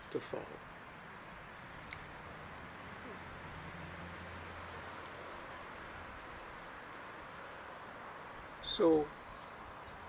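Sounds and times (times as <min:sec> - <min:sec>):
outdoor hiss: 0:00.0 - 0:10.0.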